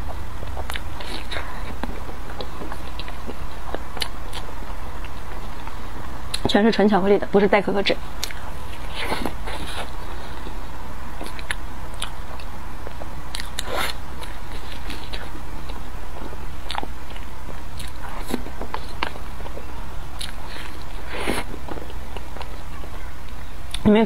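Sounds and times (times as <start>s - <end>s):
person chewing with mouth smacks: 0.0s - 6.5s, 8.2s - 10.6s, 11.2s - 22.6s
low steady hum: 0.0s - 24.0s.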